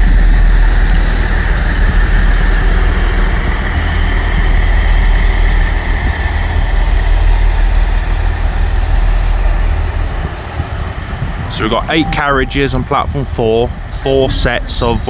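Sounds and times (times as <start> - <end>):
train diesel engines rumbling: 0.0 - 15.0.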